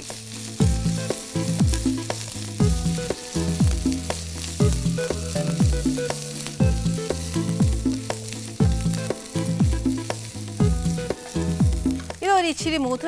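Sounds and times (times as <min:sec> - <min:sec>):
background music with drum beat: 0:00.0 - 0:13.0
onions sizzling in a frying pan: 0:00.0 - 0:13.0.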